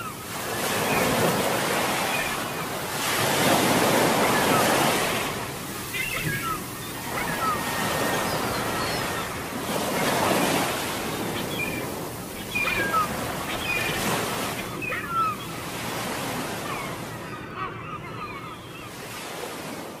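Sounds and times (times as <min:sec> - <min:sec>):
waves washing against seawall: 0:00.0 - 0:16.7.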